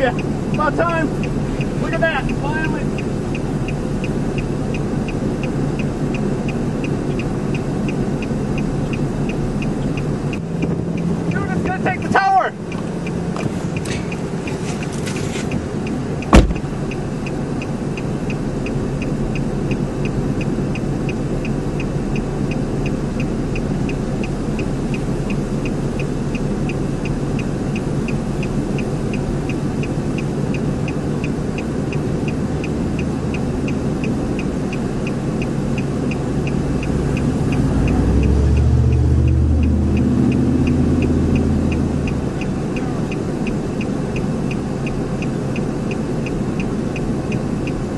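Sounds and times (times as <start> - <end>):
light regular ticking: 0.0 - 47.9
vehicle engine rumble: 0.0 - 47.9
wind: 0.0 - 47.9.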